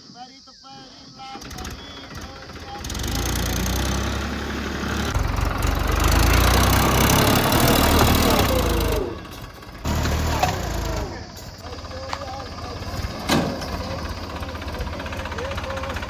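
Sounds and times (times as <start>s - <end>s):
tractor diesel engine under load: 1.2s - 16.0s.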